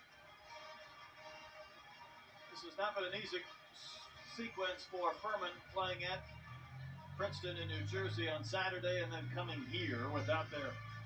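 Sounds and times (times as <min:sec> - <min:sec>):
faint arena music: 0:00.0 - 0:11.0.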